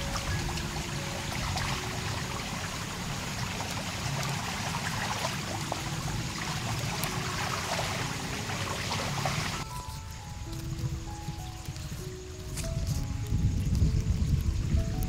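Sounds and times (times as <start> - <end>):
trickle of running water: 0.0 - 15.0.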